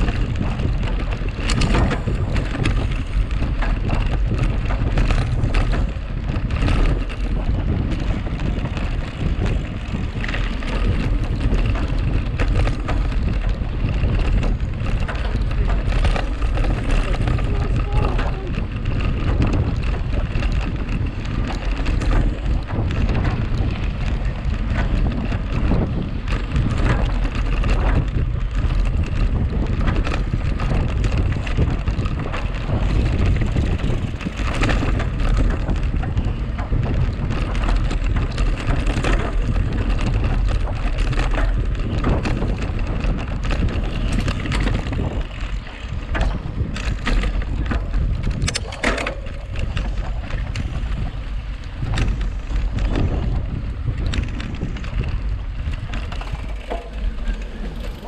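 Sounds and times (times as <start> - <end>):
bike tyre noise: 0.0 - 58.0
knocks and rattles over bumps: 0.0 - 58.0
wind rumble on microphone: 0.0 - 58.0.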